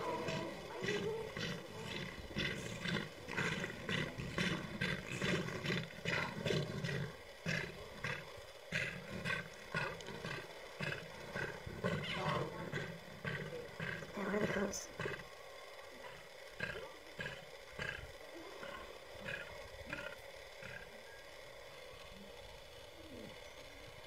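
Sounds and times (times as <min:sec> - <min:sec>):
hyenas crying: 0:00.0 - 0:15.3, 0:16.0 - 0:21.0
lion growling: 0:00.0 - 0:15.4, 0:16.0 - 0:21.0.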